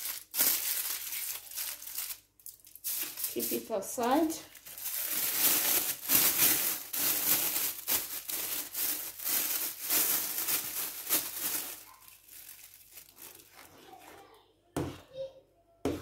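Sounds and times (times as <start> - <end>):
plastic bag crinkling: 0.0 - 14.1.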